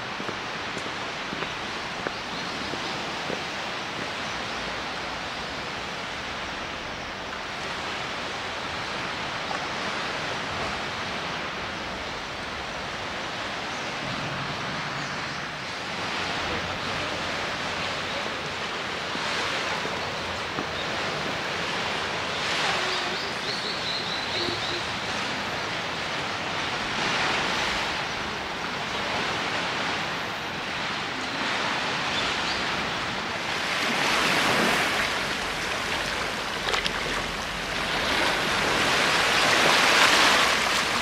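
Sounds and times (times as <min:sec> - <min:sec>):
sea surf: 0:00.0 - 0:41.0
wind: 0:00.0 - 0:41.0.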